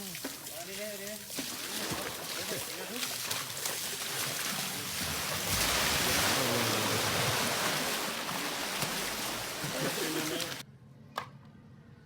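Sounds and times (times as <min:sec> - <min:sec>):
water rushing and splashing: 0:00.0 - 0:10.6.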